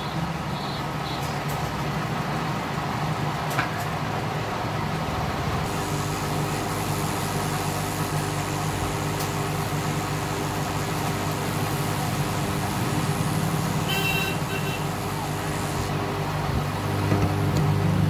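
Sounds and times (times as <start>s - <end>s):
engine humming and rumbling: 0.0s - 18.0s.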